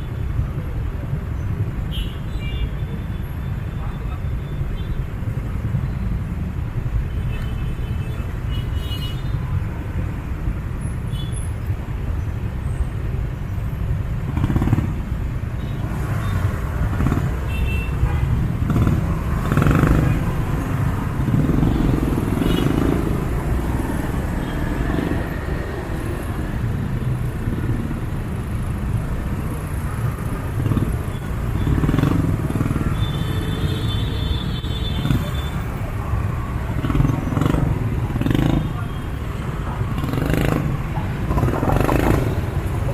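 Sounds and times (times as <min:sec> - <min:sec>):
motorcycles and cars passing: 0:02.9 - 0:42.9.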